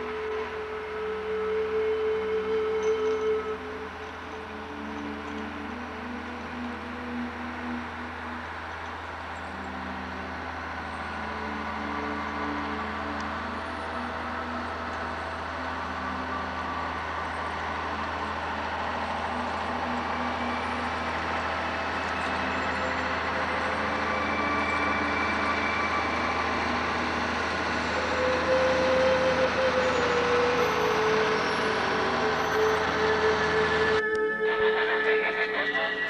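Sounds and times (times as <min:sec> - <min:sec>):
truck engine running under load: 0:00.0 - 0:34.0.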